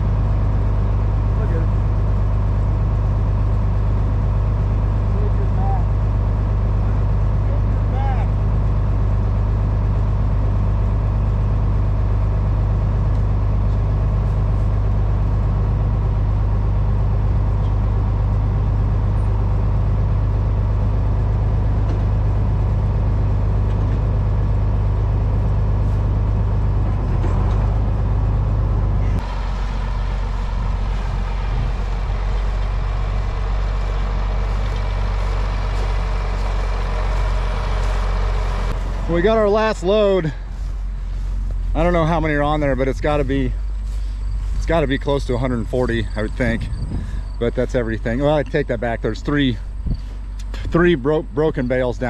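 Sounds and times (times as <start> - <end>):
tractor engine idling: 0.0 - 52.0.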